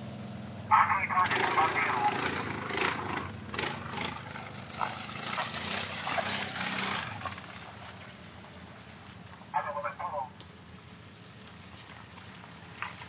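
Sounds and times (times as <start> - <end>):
quad bike engines running: 0.0 - 13.0.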